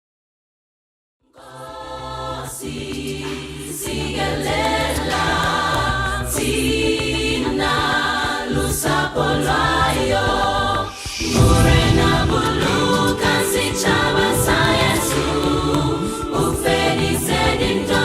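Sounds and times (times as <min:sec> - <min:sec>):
choir singing: 0:01.3 - 0:18.0.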